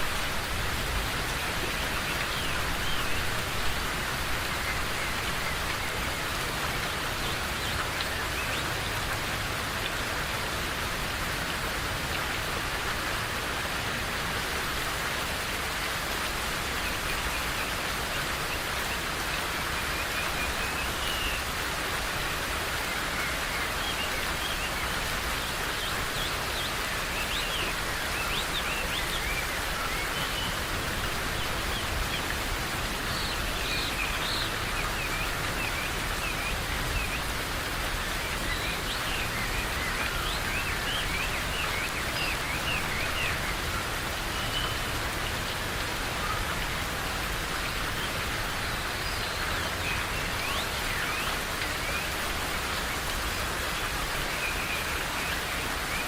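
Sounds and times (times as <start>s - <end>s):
rain falling in forest: 0.0s - 56.0s.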